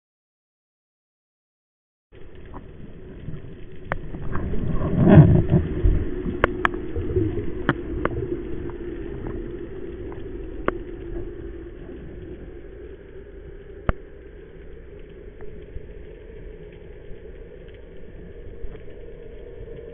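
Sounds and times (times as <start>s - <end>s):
muffled underwater rush: 2.2s - 19.9s.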